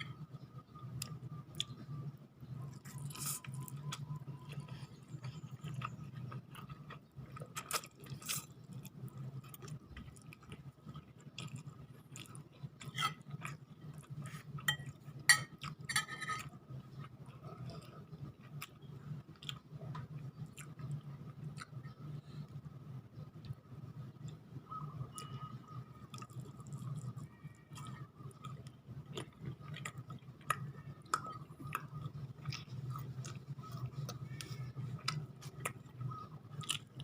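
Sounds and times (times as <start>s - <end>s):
steady low hum: 0.0s - 37.0s
person chewing food: 0.1s - 2.0s, 2.6s - 22.6s, 25.0s - 37.0s.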